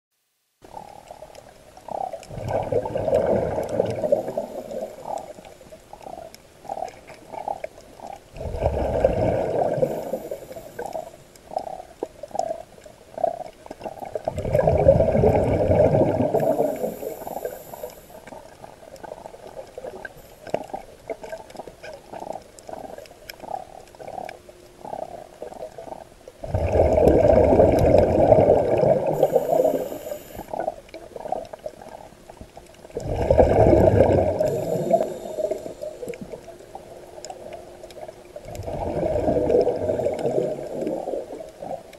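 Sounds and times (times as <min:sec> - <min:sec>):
bubble gurgles and pops: 0:00.7 - 0:17.5, 0:18.2 - 0:29.9, 0:30.5 - 0:41.9
bubbling regulator exhalations: 0:01.9 - 0:12.6, 0:13.2 - 0:21.4, 0:22.1 - 0:32.0, 0:32.9 - 0:36.7, 0:38.4 - 0:41.9.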